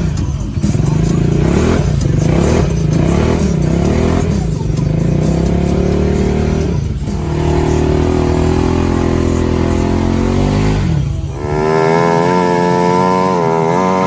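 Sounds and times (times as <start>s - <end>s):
utility vehicle engine running: 0.0s - 14.0s.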